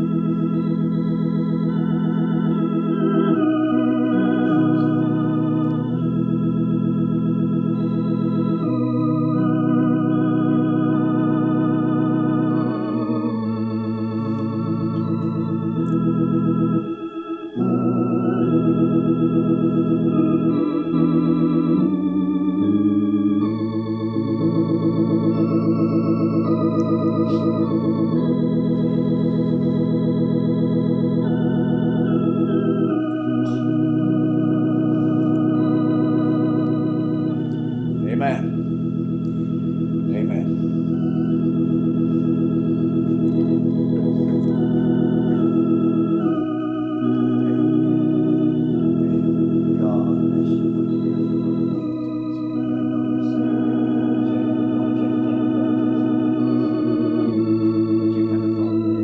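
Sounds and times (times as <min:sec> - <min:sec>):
organ playing sustained chords: 0:00.0 - 0:59.0.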